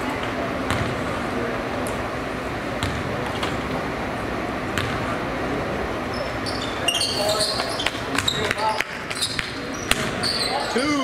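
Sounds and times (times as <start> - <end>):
murmur of crowd: 0.0 - 11.0.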